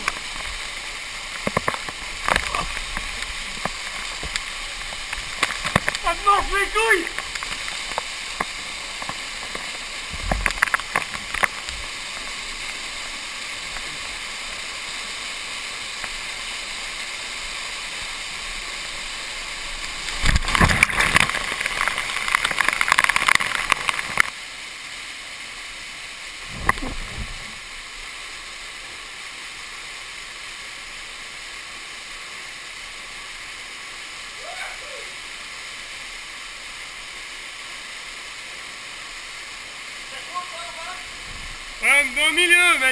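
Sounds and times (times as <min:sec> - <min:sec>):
falling water pounding: 0:00.0 - 0:42.9
waterfall rushing: 0:00.0 - 0:42.9.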